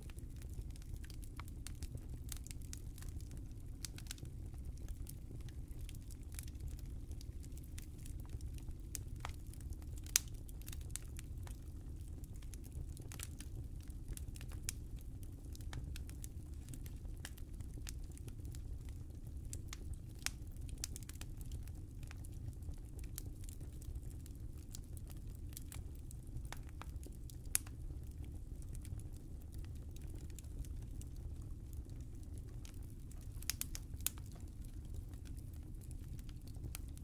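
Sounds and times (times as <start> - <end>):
fire crackling: 0.0 - 37.0.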